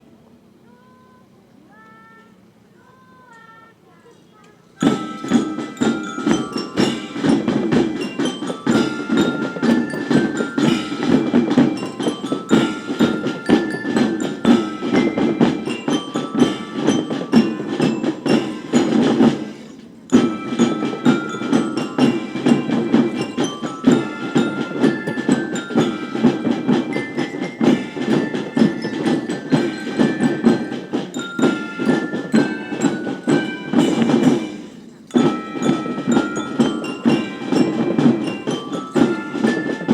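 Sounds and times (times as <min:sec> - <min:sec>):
high bell-like melody: 0:04.8 - 0:39.9
marching drums: 0:04.8 - 0:39.9.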